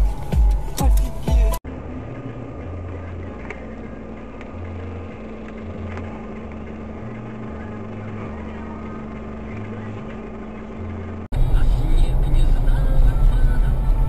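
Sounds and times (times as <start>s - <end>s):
car engine and tyres droning: 0.0s - 14.0s
steady hum: 0.0s - 14.0s.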